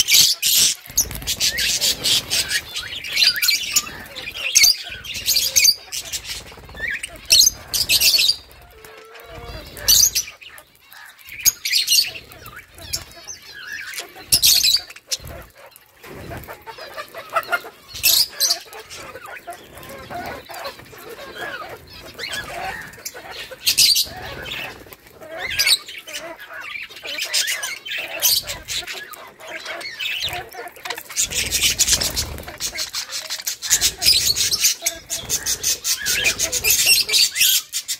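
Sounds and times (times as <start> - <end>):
budgerigars chirping and chattering: 0.0 - 37.9
wings flapping: 0.6 - 10.6, 13.9 - 26.3, 27.1 - 37.6.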